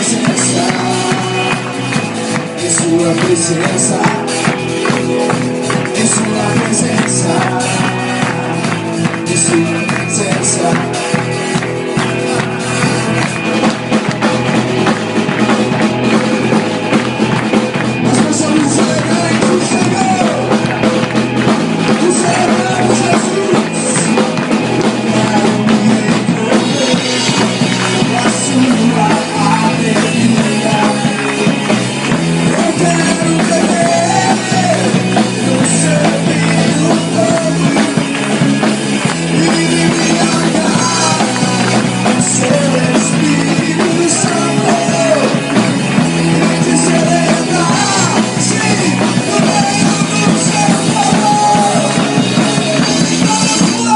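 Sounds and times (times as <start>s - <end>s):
drum kit: 0.0s - 53.9s
person singing: 0.0s - 53.9s
upbeat rock music: 0.0s - 53.9s.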